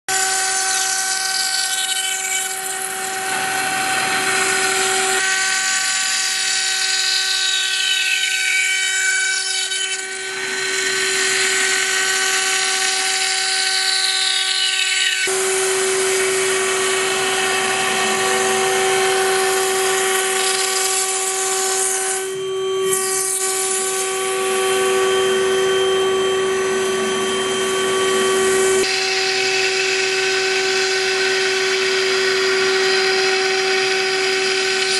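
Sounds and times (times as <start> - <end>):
milling machine spindle whine: 0.1 - 34.9
axis motors gliding in pitch: 0.2 - 34.9.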